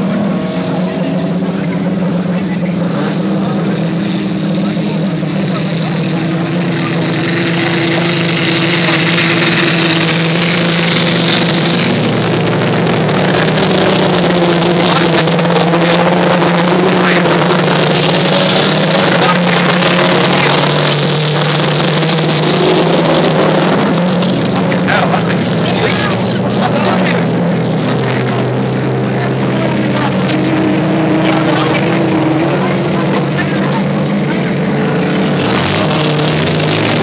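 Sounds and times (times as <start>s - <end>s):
racing car engines droning: 0.0s - 37.0s.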